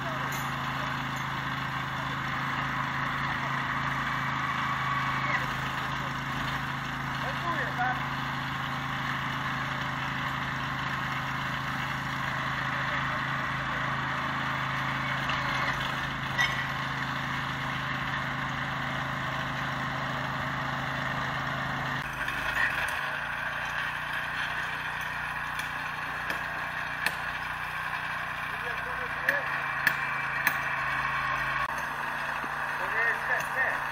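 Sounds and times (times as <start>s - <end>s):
small petrol engine running: 0.0s - 33.9s.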